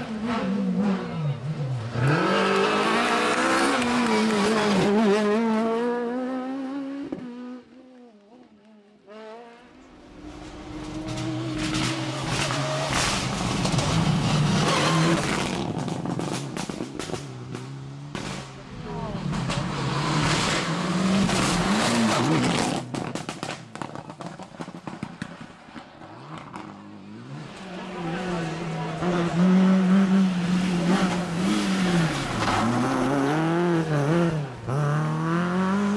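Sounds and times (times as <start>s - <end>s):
rally car engines at full throttle: 0.0s - 35.9s.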